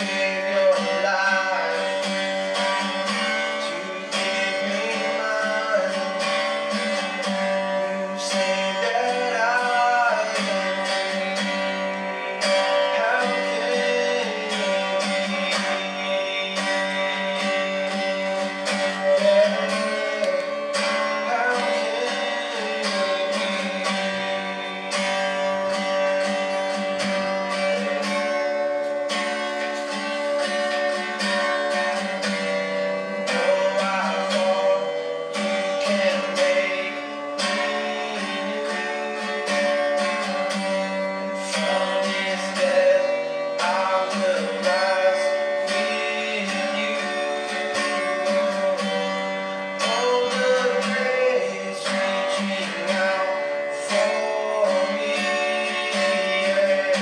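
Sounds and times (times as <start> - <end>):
acoustic guitar from television: 0.0 - 57.0
person singing: 0.0 - 57.0.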